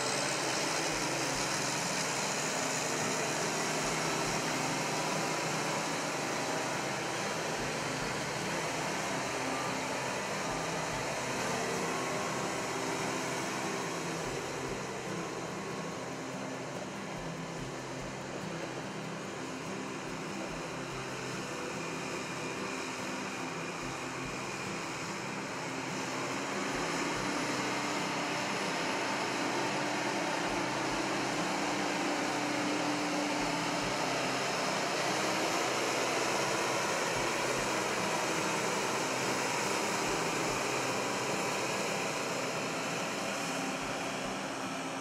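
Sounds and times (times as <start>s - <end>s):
mechanical running noise: 0.0s - 45.0s.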